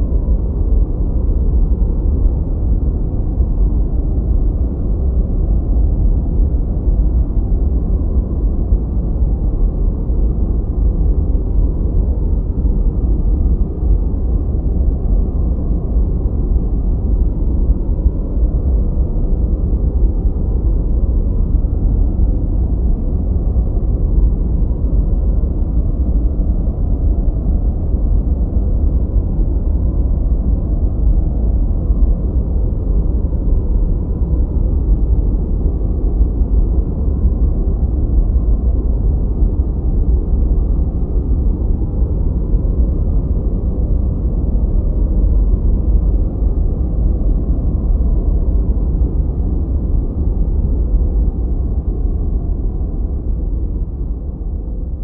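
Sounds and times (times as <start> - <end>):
deep muffled white noise: 0.0 - 55.0.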